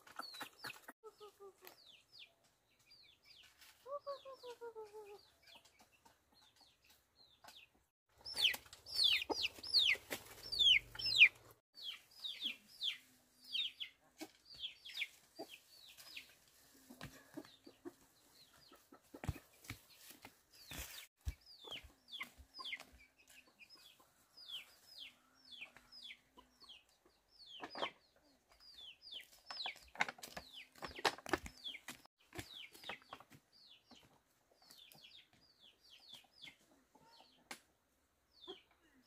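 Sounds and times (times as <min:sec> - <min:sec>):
chicks peeping: 0:00.0 - 0:16.4, 0:17.0 - 0:19.5, 0:20.6 - 0:37.4.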